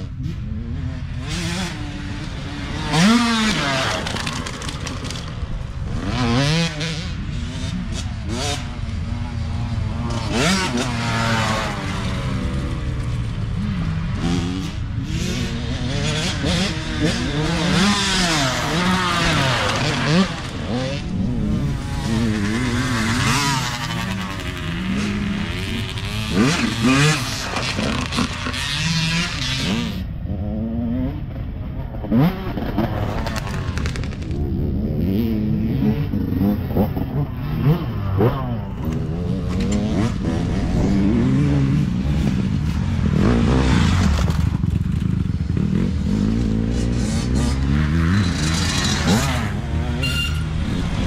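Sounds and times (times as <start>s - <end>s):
dirt bike engines revving: 0.0s - 51.0s
dirt bikes passing: 0.0s - 51.0s.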